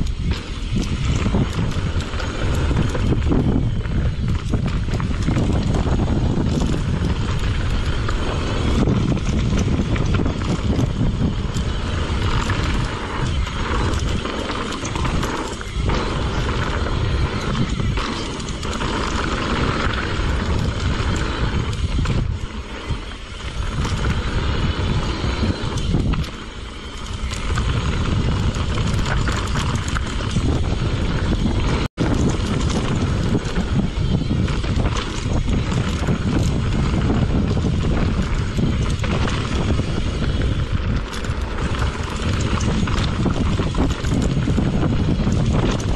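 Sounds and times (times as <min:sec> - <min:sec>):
bike knocks and rattles: 0:00.0 - 0:45.9
tyres rumbling on dirt: 0:00.0 - 0:45.9
wind buffeting microphone: 0:00.0 - 0:45.9.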